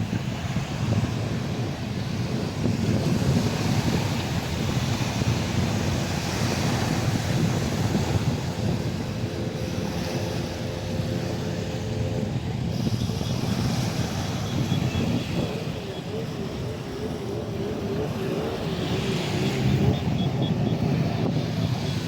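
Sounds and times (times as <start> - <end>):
sea surf: 0.0 - 22.0
wind buffeting microphone: 0.0 - 22.0.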